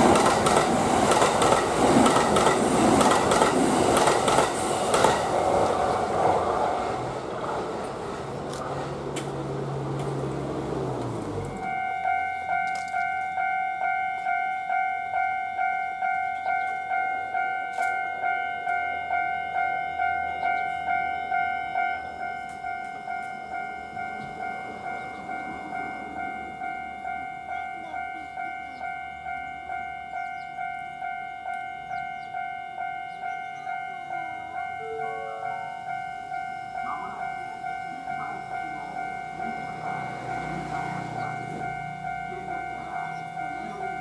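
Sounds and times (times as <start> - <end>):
level-crossing warning bell: 0.0 - 5.7, 9.8 - 44.0.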